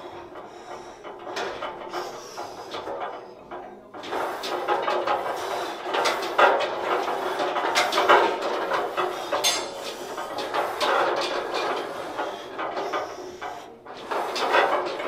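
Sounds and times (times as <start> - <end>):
metal bar and weight plates clanking: 0.0 - 15.0.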